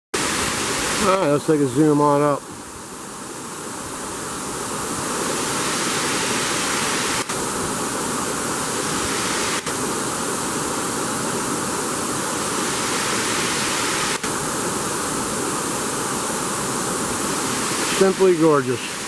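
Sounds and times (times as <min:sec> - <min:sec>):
waterfall rushing: 0:00.2 - 0:19.0.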